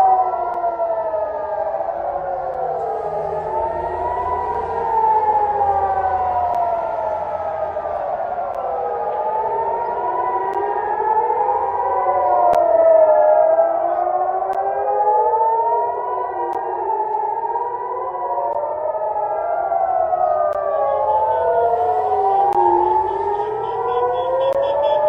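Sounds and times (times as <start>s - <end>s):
air-raid sirens wailing: 0.0s - 25.0s.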